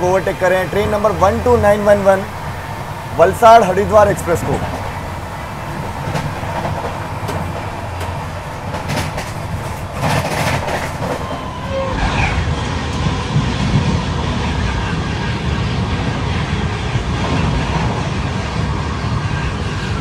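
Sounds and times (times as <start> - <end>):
train rumbling and clickety-clack: 0.0 - 20.0.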